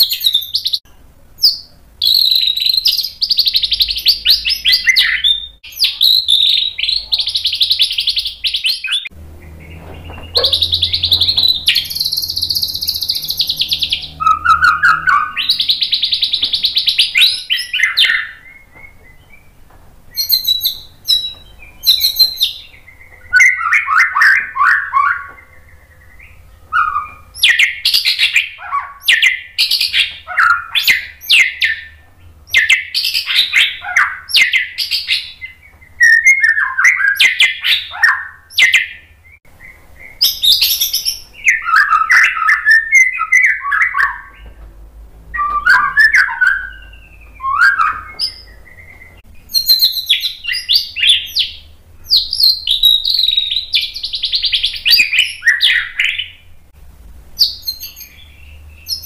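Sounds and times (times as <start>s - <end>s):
songbird singing: 0.0s - 56.8s, 57.4s - 59.0s.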